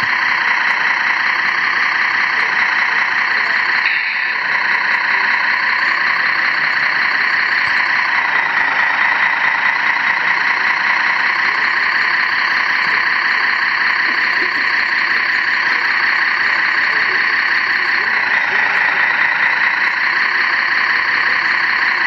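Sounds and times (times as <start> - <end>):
model truck engine running: 0.0 - 22.0.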